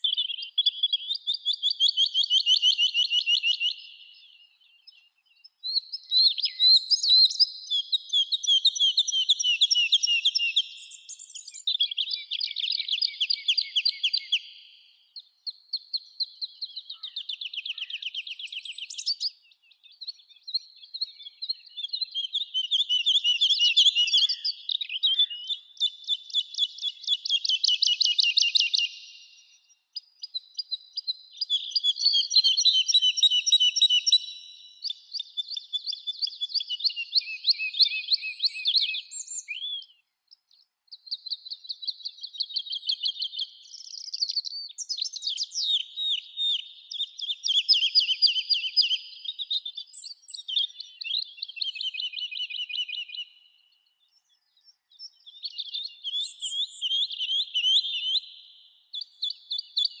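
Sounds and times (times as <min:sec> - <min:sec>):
songbird chirps and trills: 0:00.0 - 1:00.0.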